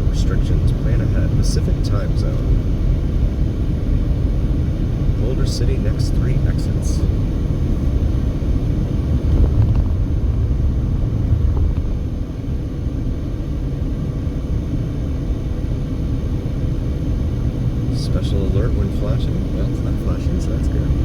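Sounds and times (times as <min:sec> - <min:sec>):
car road rumble from inside: 0:00.0 - 0:21.0.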